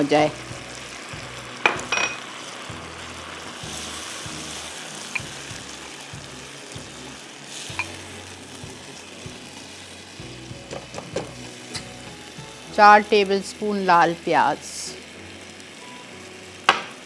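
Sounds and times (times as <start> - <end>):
chicken sizzling in oil: 0.0 - 17.0.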